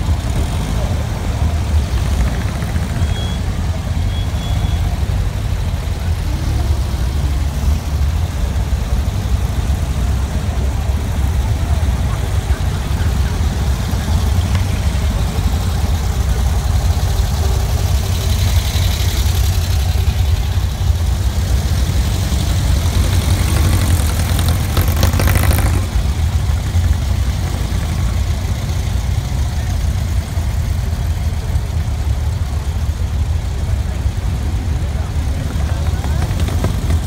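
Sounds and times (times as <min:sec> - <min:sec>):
car engines idling: 0:00.0 - 0:37.0.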